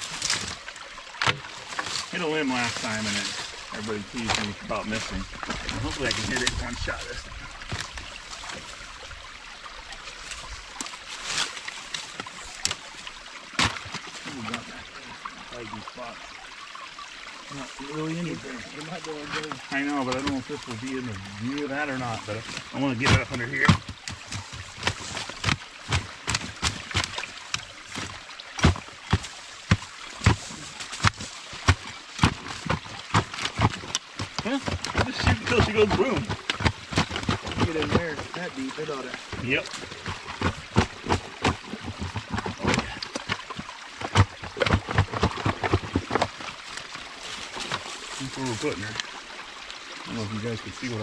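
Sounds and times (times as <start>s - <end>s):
water trickling: 0.0s - 51.0s.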